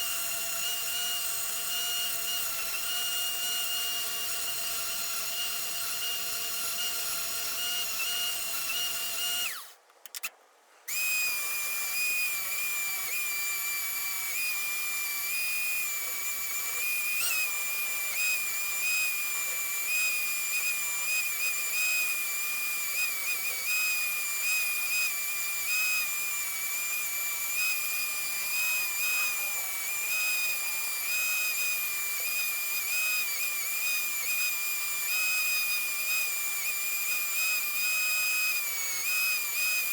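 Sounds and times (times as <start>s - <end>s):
power tool high-pitched whine: 0.0s - 9.8s, 10.9s - 39.9s.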